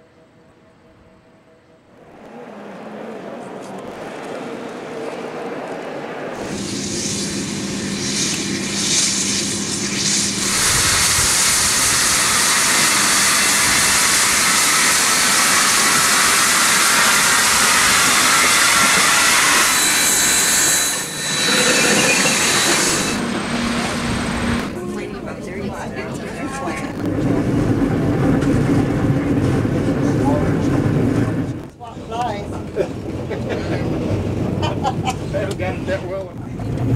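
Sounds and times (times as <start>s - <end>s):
steam locomotive passing: 0.1s - 36.9s.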